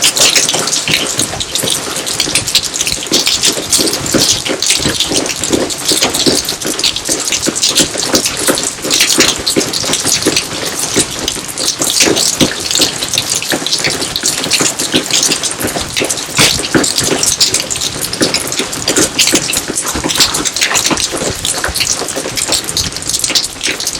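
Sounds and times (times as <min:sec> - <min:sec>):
rain drops splashing: 0:00.0 - 0:23.9.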